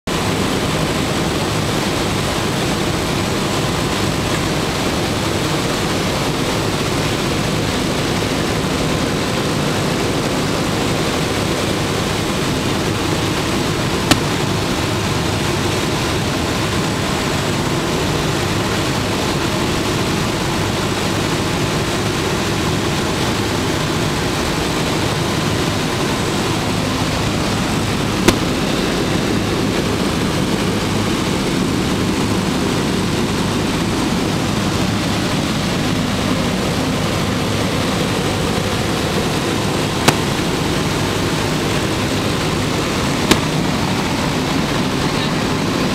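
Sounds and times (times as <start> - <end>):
radial aircraft engines droning: 0.1 - 45.9.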